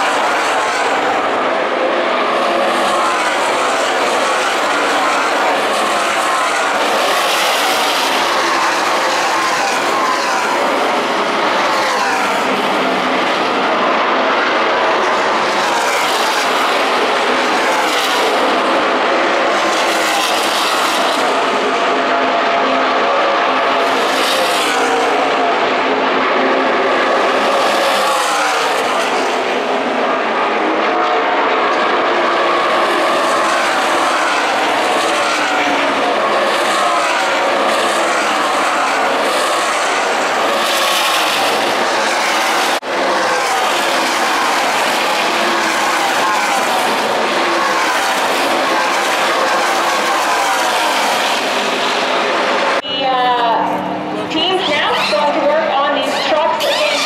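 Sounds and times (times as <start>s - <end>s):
racing engines at high revs: 0.0s - 57.0s.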